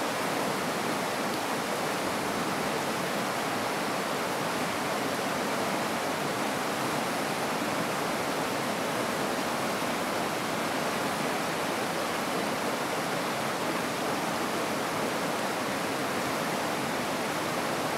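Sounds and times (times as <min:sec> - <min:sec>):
stream rushing: 0:00.0 - 0:17.9.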